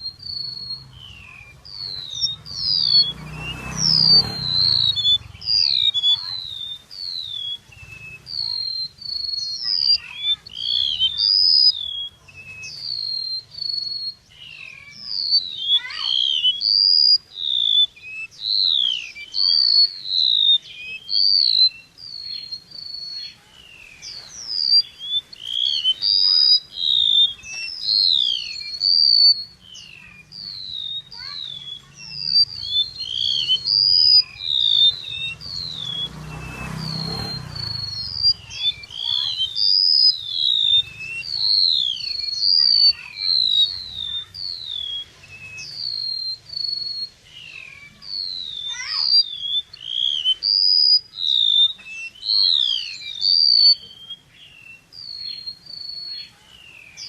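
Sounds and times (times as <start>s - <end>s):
songbird chirping and whistling: 0.0s - 57.0s.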